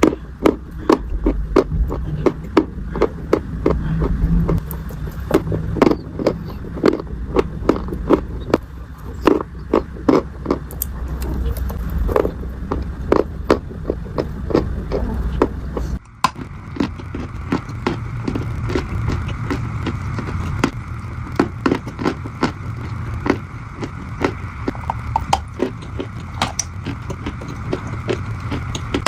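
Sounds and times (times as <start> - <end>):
dried clay crunching: 0.0 - 29.0.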